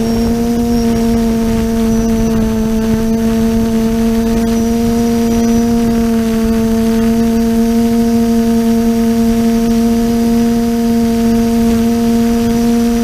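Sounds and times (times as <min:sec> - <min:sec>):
quadcopter motors humming: 0:00.0 - 0:13.0
wind and rotor wash rushing: 0:00.0 - 0:13.0.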